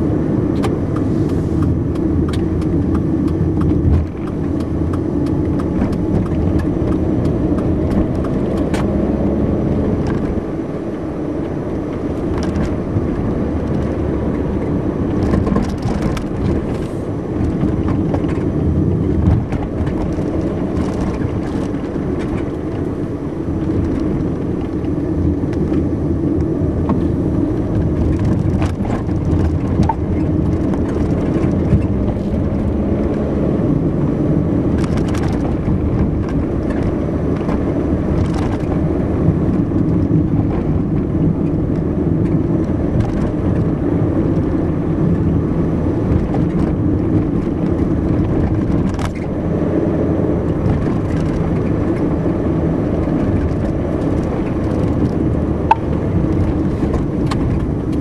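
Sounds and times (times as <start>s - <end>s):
car engine and tyre noise: 0.0s - 58.0s.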